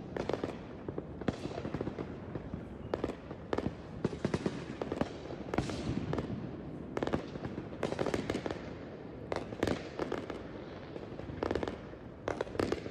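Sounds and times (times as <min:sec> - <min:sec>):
fireworks bangs and pops: 0:00.0 - 0:12.9.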